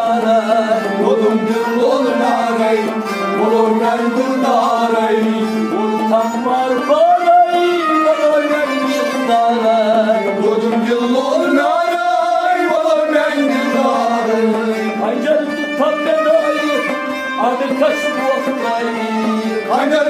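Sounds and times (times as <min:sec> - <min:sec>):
harmonium held notes: 0:00.0 - 0:20.0
man singing: 0:00.0 - 0:20.0.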